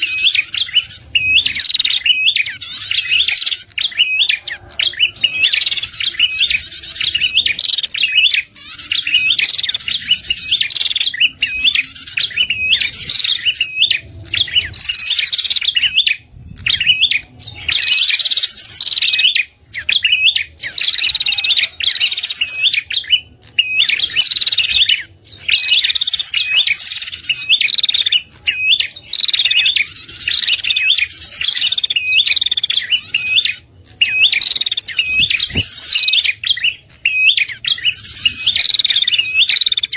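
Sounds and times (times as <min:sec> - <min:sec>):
bird call fast sharp chirping: 0:00.0 - 0:39.9.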